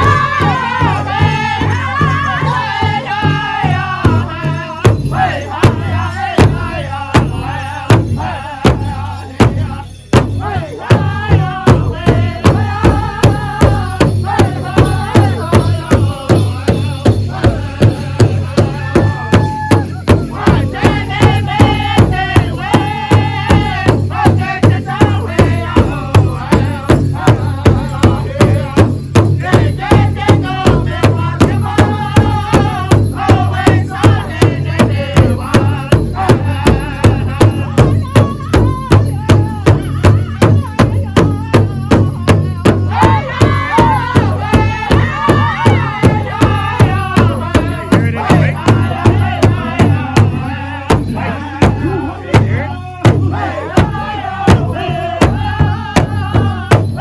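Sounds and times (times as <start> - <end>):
big drum beating: 0.0 - 57.0
group singing together: 0.0 - 57.0.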